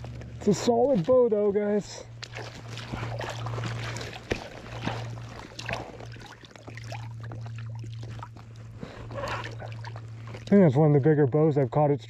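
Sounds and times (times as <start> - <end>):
water splashing and dripping: 0.0 - 10.6
steady low hum: 0.0 - 12.0.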